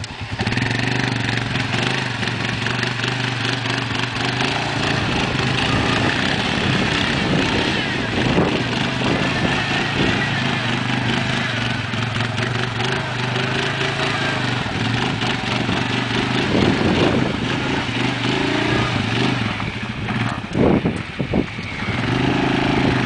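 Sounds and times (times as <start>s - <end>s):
atv engine idling: 0.0s - 23.0s.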